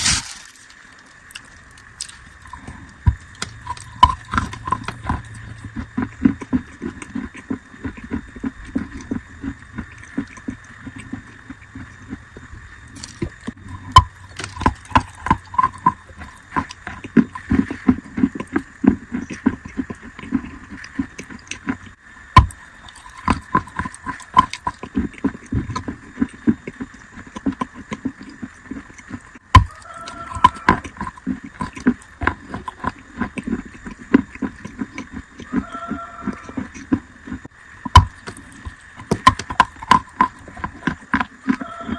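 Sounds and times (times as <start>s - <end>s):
wet chalk being chewed: 0.0s - 41.9s.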